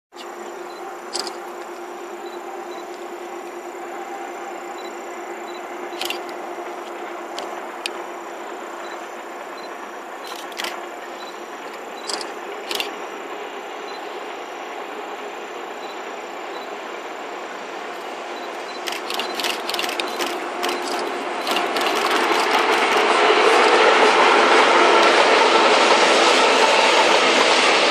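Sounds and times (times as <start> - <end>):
train rumble: 0.1 - 27.9
train wheels clicking on rails: 0.2 - 27.9.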